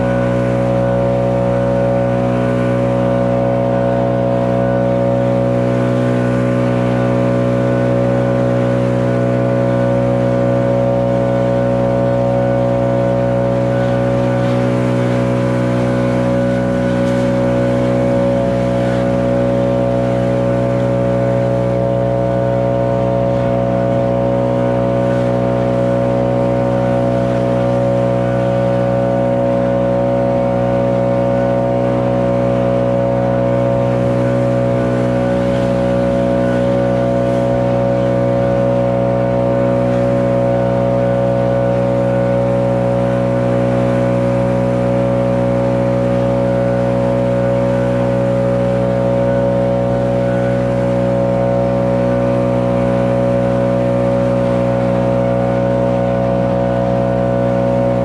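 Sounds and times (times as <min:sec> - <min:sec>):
backpack blower engine running: 0:00.0 - 0:58.0.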